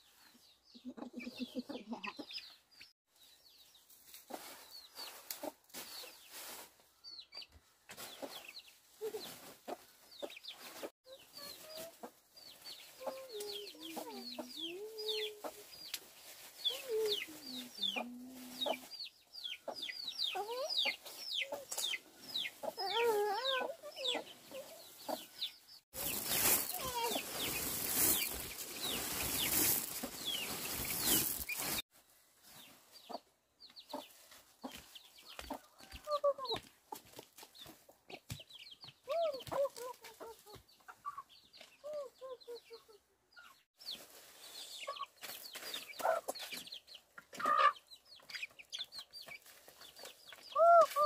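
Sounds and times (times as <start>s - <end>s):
chickens clucking: 0.4s - 2.8s, 4.1s - 6.4s, 7.3s - 31.8s, 32.6s - 51.0s.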